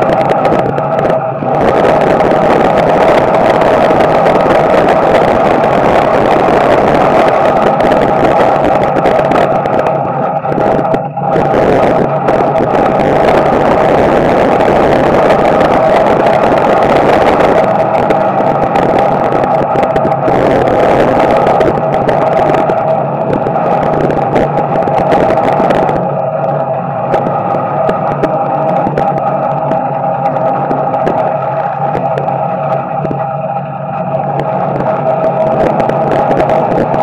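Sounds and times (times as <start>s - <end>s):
race car engine running hard: 0.0s - 37.0s.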